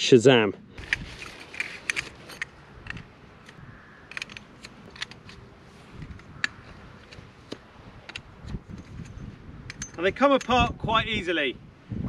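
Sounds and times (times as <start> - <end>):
tent pole sections clicking: 0.8 - 10.6.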